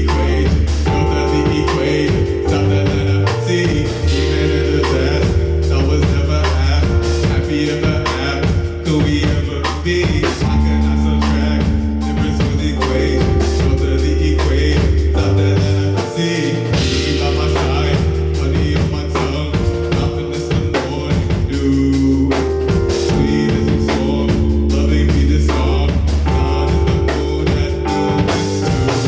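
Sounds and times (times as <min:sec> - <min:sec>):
drum kit beat: 0:00.0 - 0:29.0
held low bass notes: 0:00.0 - 0:29.0.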